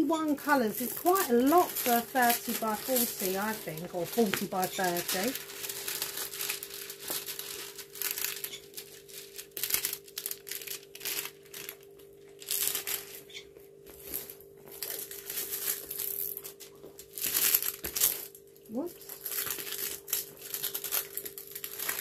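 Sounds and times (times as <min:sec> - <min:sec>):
plastic film crinkling: 0:00.0 - 0:22.0.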